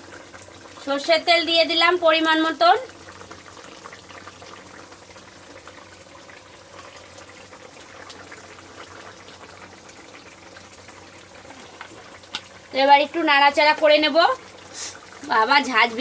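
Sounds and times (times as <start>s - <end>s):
curry bubbling and popping: 0.0s - 16.0s.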